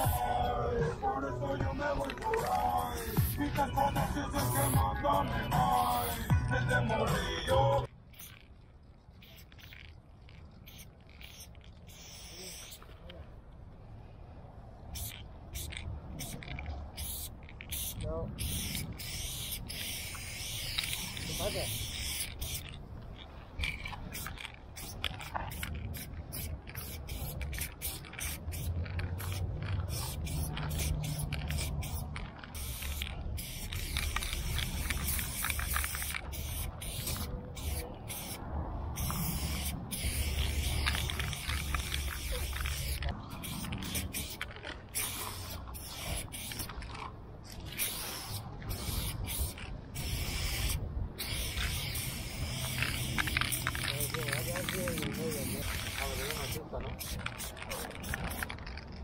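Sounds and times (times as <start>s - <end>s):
spray-paint can hissing: 0.0s - 0.6s, 1.6s - 6.4s, 8.1s - 8.5s, 9.2s - 9.8s, 10.6s - 12.8s, 14.9s - 22.8s, 23.6s - 46.8s, 47.6s - 58.6s.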